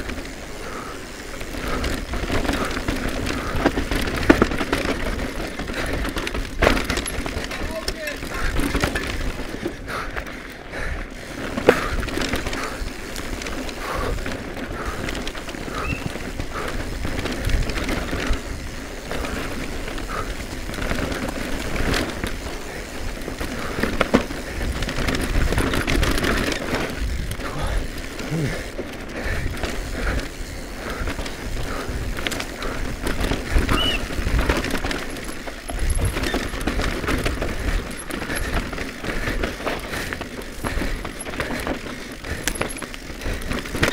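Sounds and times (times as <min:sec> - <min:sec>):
bike rattling: 0:00.0 - 0:43.9
tyres rolling over dirt and stones: 0:00.0 - 0:43.9.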